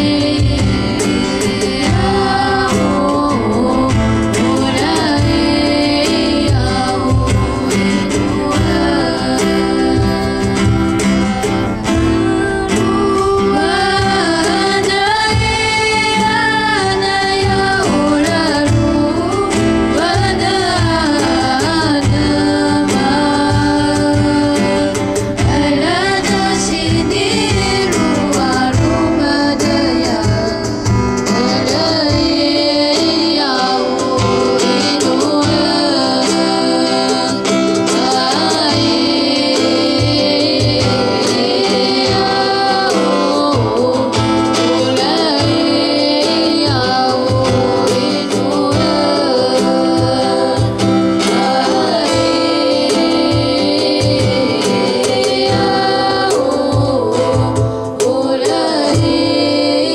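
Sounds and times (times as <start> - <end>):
strummed acoustic guitar: 0.0 - 59.9
voices singing folk song: 0.0 - 59.9.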